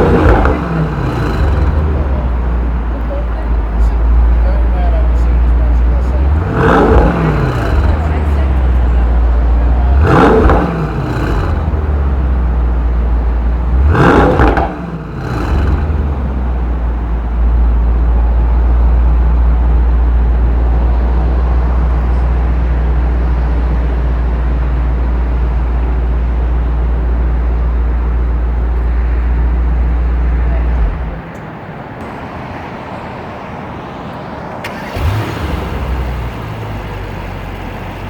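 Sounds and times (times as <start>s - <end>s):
car engine revving: 0.0s - 31.4s, 33.7s - 38.0s
car engine idling: 0.0s - 38.0s.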